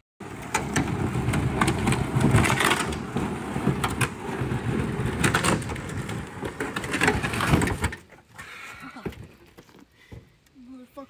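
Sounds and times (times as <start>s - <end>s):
canoe hull scraping on concrete: 0.2s - 10.2s.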